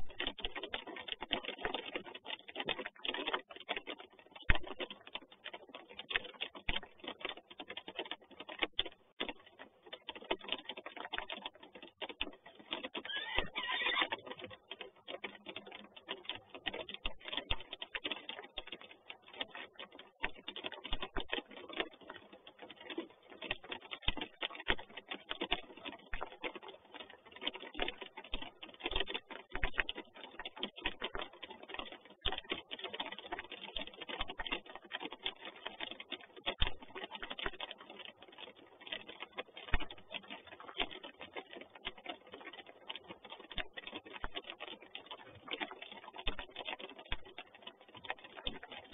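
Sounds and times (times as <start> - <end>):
rain drops ticking on wood: 0.0 - 48.9.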